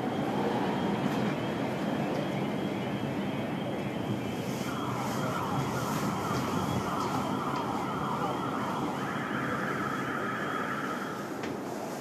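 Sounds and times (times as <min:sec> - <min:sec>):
sirens wailing: 0:00.0 - 0:11.6.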